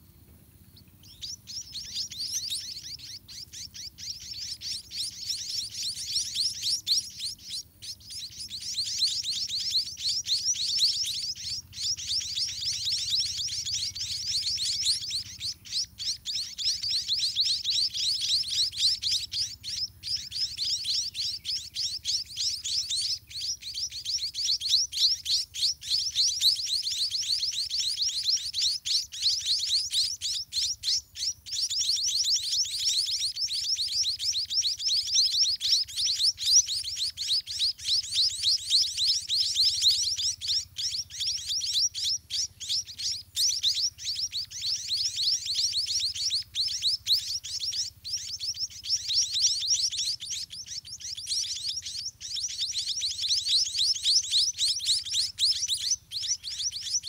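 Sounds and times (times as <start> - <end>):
nestlings chirping: 0.6 - 57.0.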